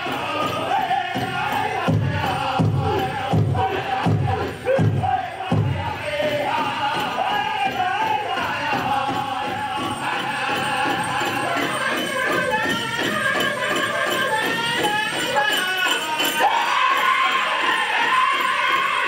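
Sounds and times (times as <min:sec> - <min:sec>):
big drum beating: 0:00.0 - 0:15.4
voices chanting high song: 0:00.0 - 0:19.0.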